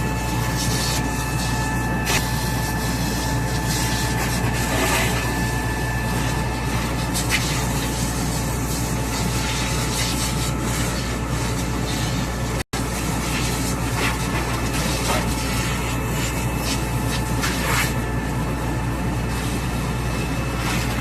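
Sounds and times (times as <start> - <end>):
concrete pump truck droning: 0.0 - 21.0
faint whine: 0.0 - 21.0.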